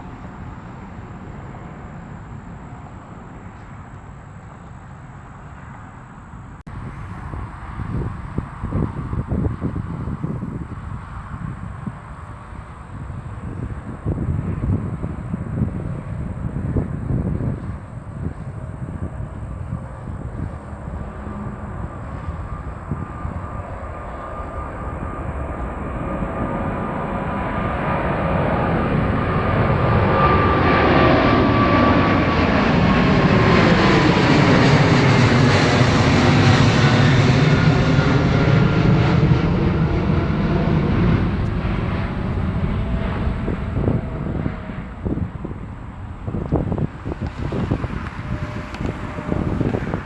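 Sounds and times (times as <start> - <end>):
jet airliner passing: 0.0 - 50.0.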